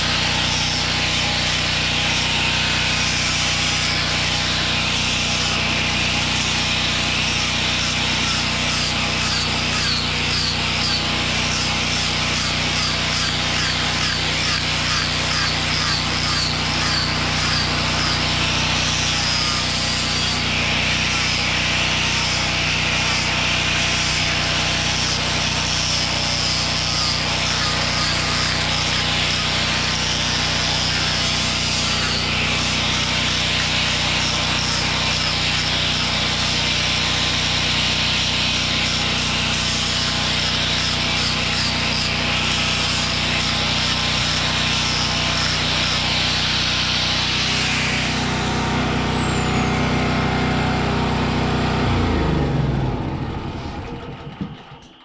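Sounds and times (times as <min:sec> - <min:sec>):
sanding disc hissing on wood: 0:00.0 - 0:48.2
angle grinder motor whine: 0:00.0 - 0:55.0.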